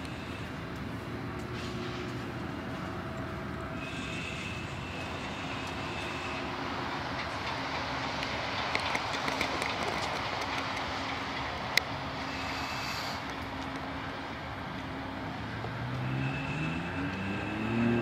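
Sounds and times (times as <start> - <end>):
passenger train idling: 0.0 - 18.0.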